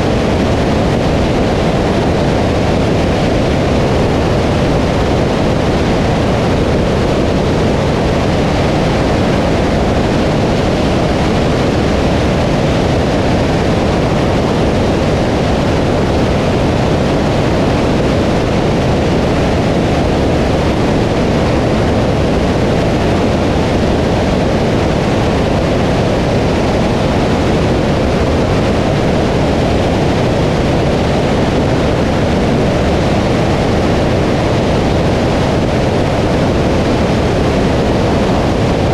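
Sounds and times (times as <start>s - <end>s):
aircraft engine drone: 0.0s - 38.9s
airflow rushing: 0.0s - 38.9s.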